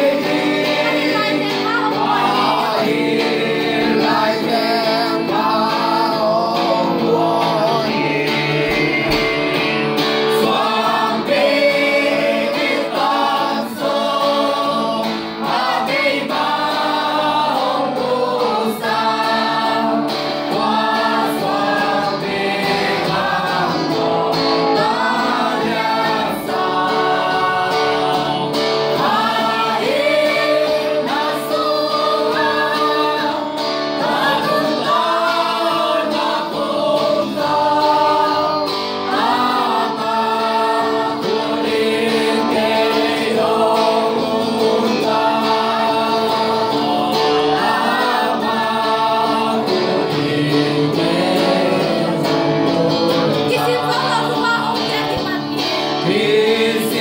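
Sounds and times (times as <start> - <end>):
electric guitar: 0.0 - 57.0
group singing gospel song: 0.0 - 57.0.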